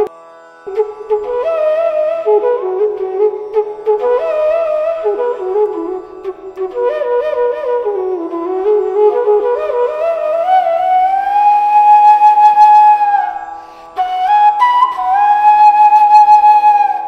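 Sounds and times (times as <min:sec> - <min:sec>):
bamboo flute melody: 0:00.0 - 0:17.0.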